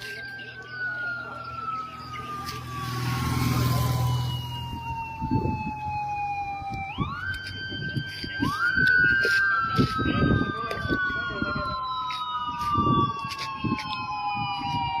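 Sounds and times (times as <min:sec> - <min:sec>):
police siren wailing: 0:00.0 - 0:15.0
vehicle engine rumble: 0:00.0 - 0:15.0.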